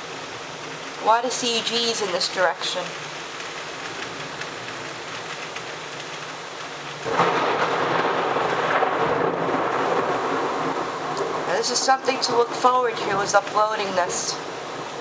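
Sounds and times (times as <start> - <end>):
heavy rain pouring: 0.0 - 15.0
thunder clap rumbling: 0.0 - 15.0.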